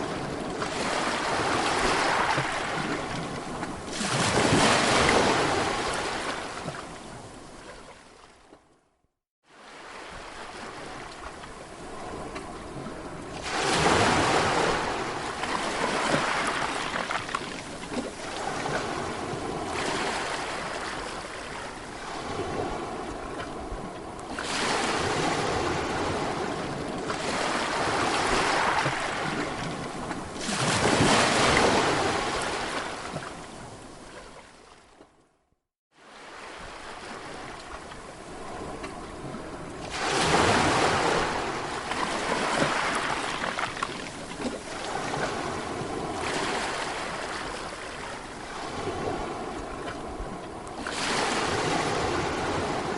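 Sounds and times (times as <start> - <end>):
sea waves breaking ashore: 0.0 - 8.5, 9.4 - 35.1, 35.9 - 52.9.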